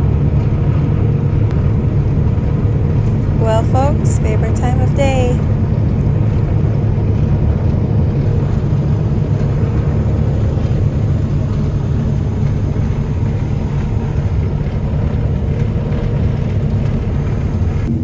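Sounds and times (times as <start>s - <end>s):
combine harvester drone: 0.0s - 18.0s
faint steady hum: 0.0s - 18.0s.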